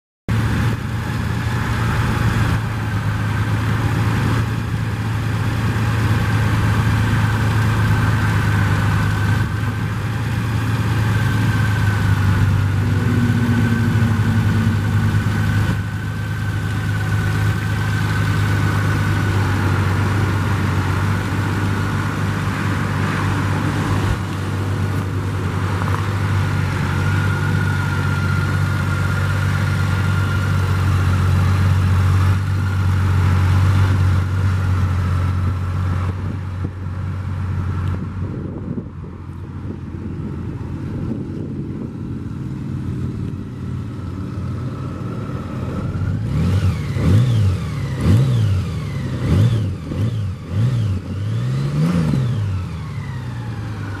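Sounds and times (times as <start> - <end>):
motorcycle engine idling: 0.3 - 51.3.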